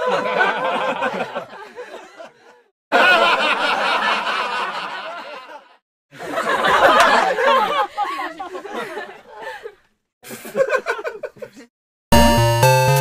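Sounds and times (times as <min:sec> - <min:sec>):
laughter: 0:00.0 - 0:11.7.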